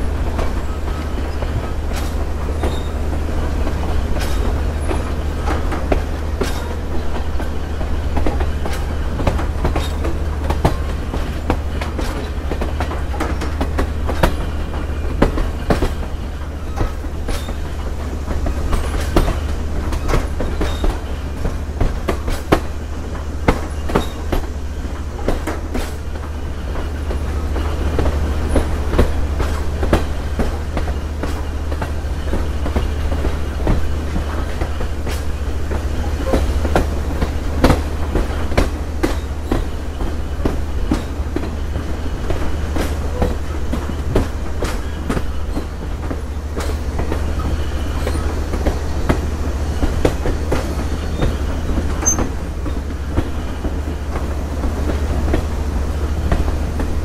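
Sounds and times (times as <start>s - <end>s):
train cars rumbling on track: 0.0s - 57.0s.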